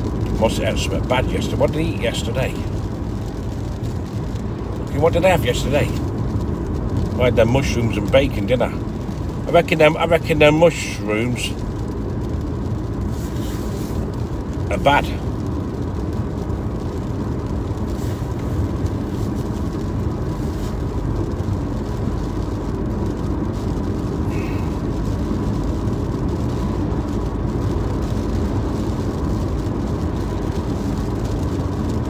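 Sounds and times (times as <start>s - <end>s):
car road and engine noise: 0.0s - 32.0s
windscreen wipers sweeping: 0.0s - 32.0s.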